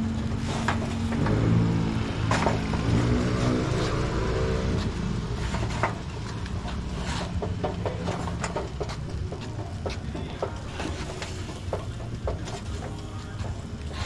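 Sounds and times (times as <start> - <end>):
sharp clicks and knocks: 0.0 - 14.0.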